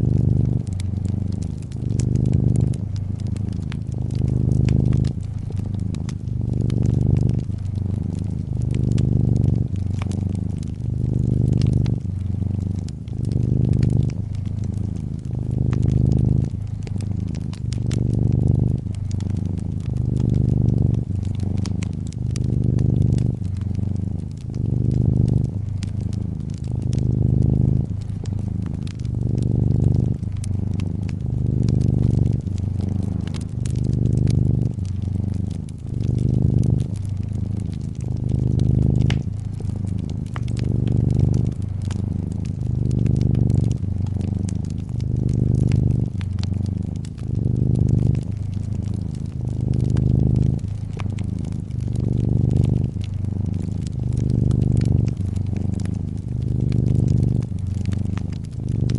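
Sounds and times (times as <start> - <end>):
cat purring: 0.0 - 58.9
wood fire crackling and popping: 0.0 - 58.9.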